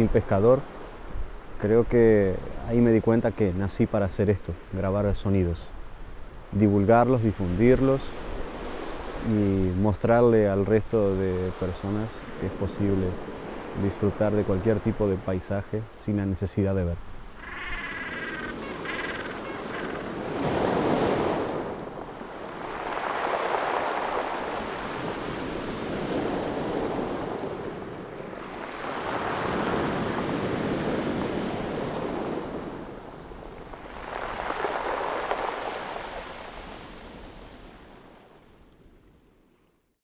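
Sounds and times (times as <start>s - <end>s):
ocean waves washing in: 0.0s - 39.6s.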